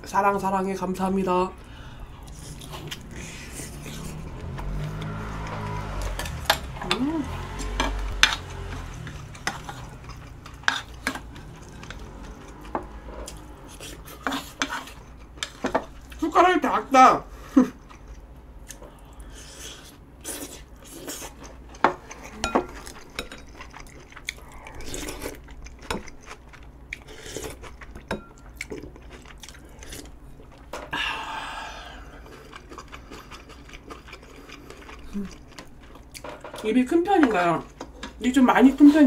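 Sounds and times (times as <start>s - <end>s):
chewing: 1.6s - 16.2s, 17.6s - 30.8s, 31.8s - 36.7s.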